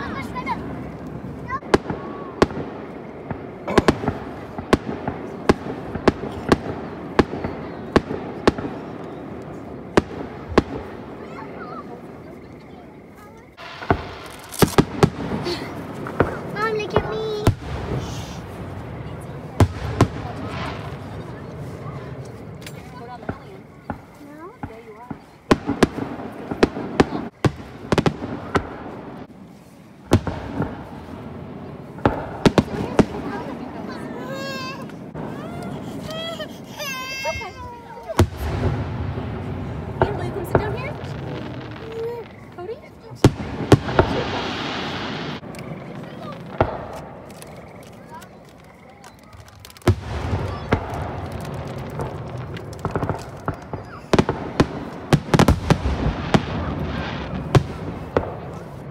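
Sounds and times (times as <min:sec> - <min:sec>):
fireworks bursting: 0:00.0 - 0:58.9.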